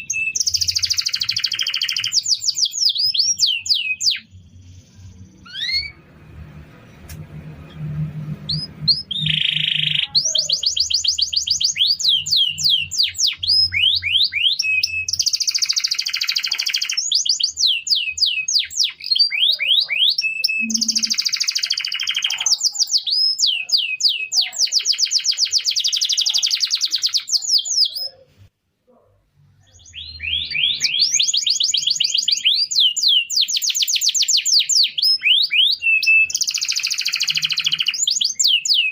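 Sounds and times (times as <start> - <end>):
canary singing trills: 0.0 - 6.3, 7.7 - 38.9.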